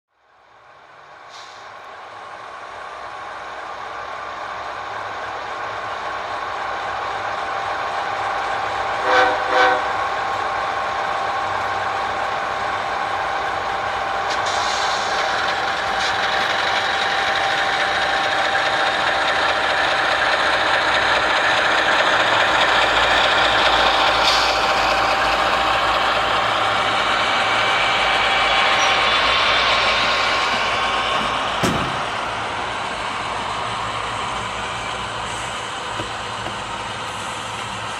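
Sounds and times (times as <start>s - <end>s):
model locomotive engine sound: 0.2s - 37.9s.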